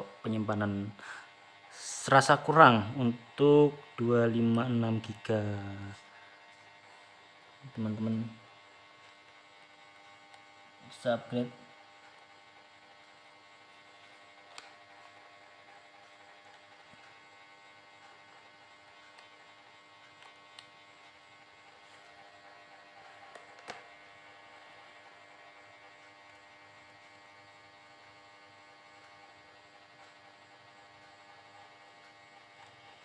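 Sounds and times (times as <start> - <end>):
faint mains hum: 0.0 - 33.0.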